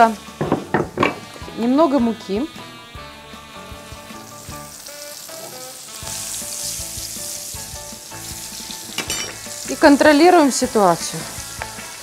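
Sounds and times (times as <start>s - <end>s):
onions sizzling in a skillet: 0.0s - 12.0s.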